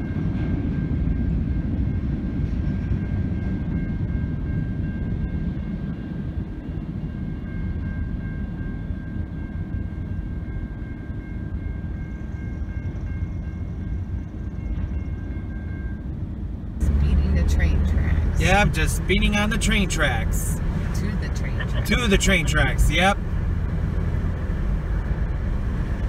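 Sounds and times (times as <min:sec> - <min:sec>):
crossing warning bells ringing: 0:00.0 - 0:26.0
freight train cars rumbling past: 0:00.0 - 0:26.0.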